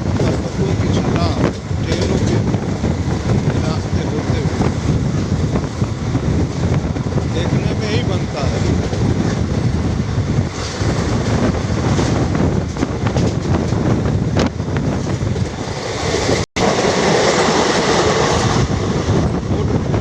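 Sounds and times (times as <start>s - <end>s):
train wheels rattling on rails: 0.0s - 20.0s.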